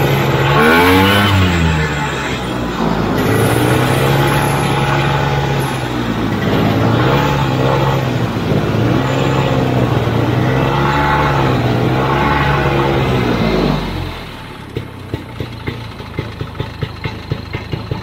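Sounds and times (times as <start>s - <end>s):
snowmobile two-stroke engine: 0.0s - 18.0s.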